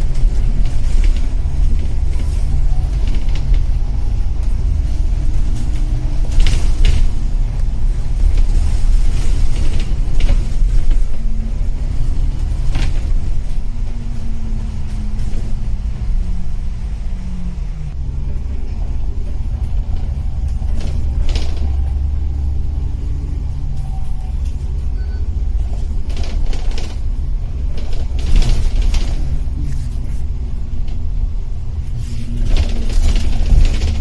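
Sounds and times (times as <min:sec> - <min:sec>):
faint engine hum: 0:00.0 - 0:34.0
vehicle rumble: 0:00.0 - 0:34.0.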